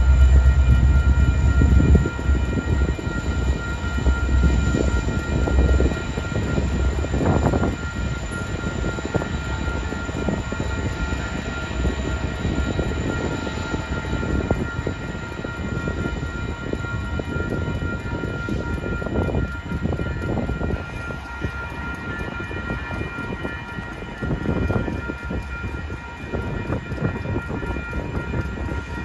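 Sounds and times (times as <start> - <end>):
faint steady whine: 0.0 - 29.0
train rumbling past: 0.0 - 29.0
train wheels clicking and knocking: 0.0 - 29.0.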